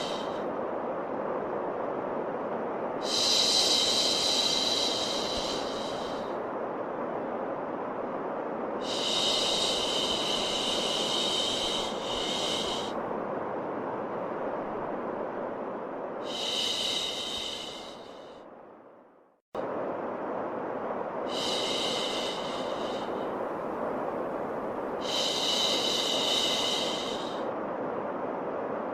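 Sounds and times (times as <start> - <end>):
steady white noise: 0.0 - 28.9.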